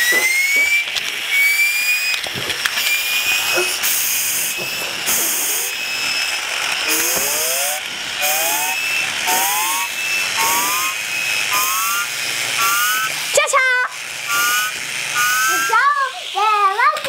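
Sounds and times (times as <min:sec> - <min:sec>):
rising whistling tone: 0:00.0 - 0:13.4, 0:14.2 - 0:16.0.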